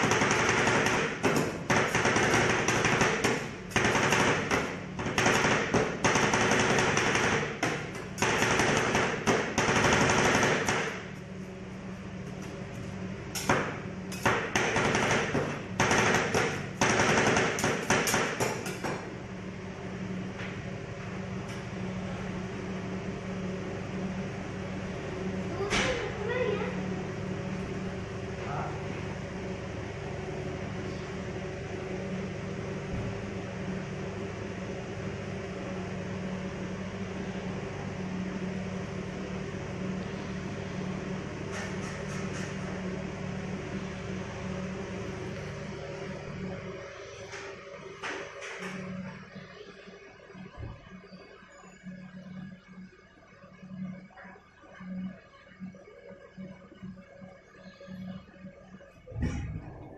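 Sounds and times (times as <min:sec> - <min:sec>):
refrigeration unit humming: 0:00.0 - 0:59.9.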